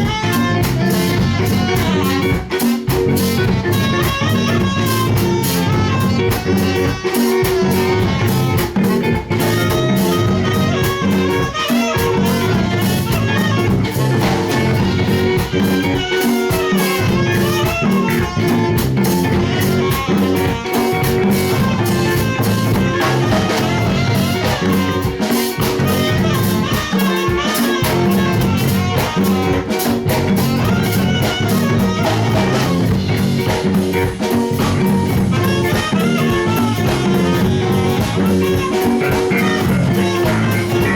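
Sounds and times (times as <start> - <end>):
bass: 0.0 - 40.9
drum kit: 0.0 - 40.9
guitars: 0.0 - 40.9.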